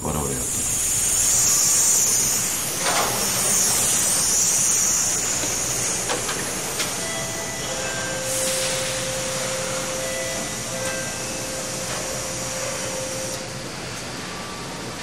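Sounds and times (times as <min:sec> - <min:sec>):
factory machinery hissing: 0:00.0 - 0:15.0
faint steady tones: 0:00.5 - 0:15.0.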